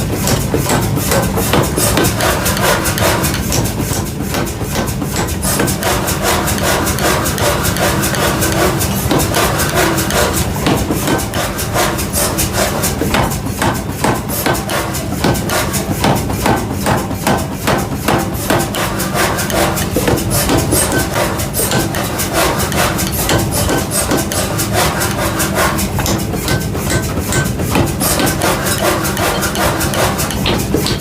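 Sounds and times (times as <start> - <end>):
metal being hammered: 0.0 - 31.0.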